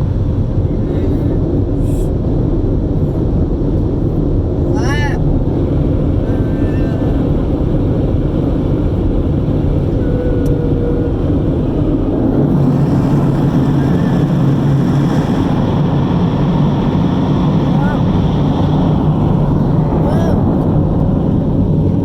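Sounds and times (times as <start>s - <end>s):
car wash machinery rumbling: 0.0s - 22.0s.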